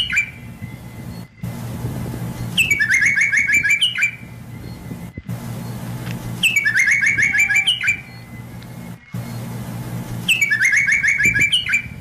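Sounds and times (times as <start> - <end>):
songbird singing: 0.0 - 12.0
steady low hum: 0.0 - 12.0.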